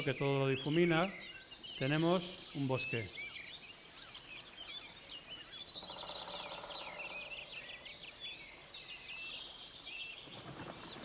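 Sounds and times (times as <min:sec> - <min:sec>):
songbirds chorus: 0:00.0 - 0:11.0
wind: 0:00.0 - 0:11.0.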